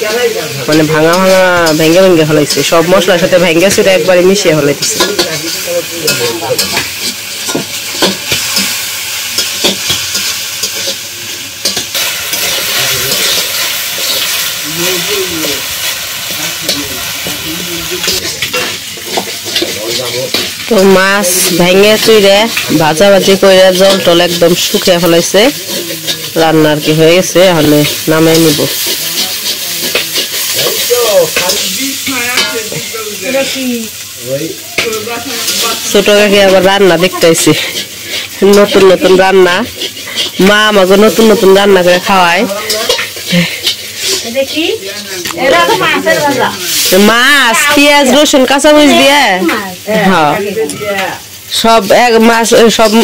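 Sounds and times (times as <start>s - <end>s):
metal spatula scraping a pan: 0.0s - 33.7s, 34.8s - 51.0s
fish sizzling in oil: 0.0s - 53.0s.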